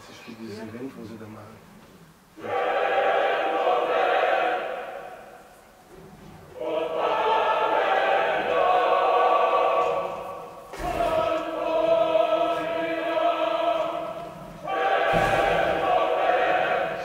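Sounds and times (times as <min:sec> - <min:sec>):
choir singing sustained chords: 0:02.4 - 0:17.0.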